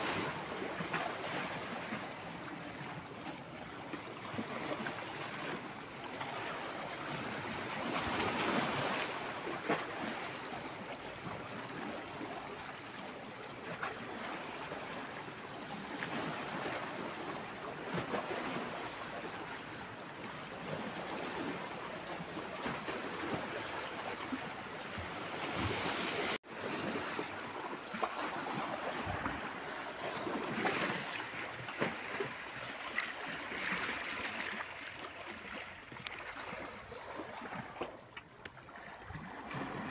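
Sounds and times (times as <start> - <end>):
small waves splashing on rocks: 0.0 - 19.4, 20.6 - 39.9.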